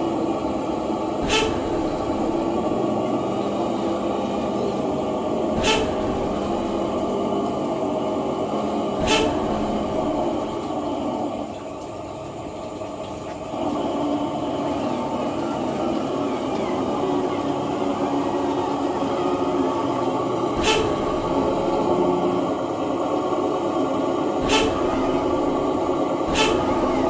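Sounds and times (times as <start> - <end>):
motor-driven mechanical drone: 0.0 - 11.5, 13.6 - 27.0.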